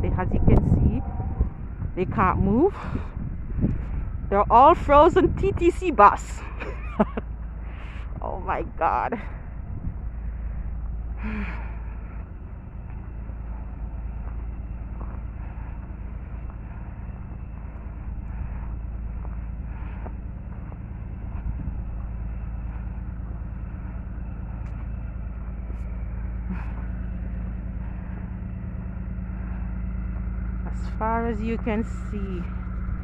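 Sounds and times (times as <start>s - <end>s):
road noise: 0.0s - 33.0s
vehicle engine hum: 0.0s - 33.0s.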